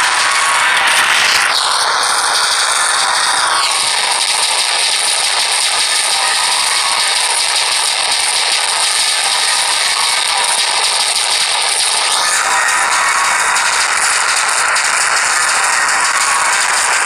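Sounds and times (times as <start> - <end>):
overlapping game sound effects: 0.0 - 17.0.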